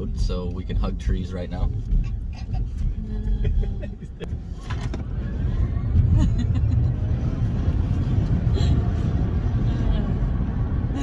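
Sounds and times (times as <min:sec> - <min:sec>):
road and tyre rumble in cab: 0:00.0 - 0:11.0.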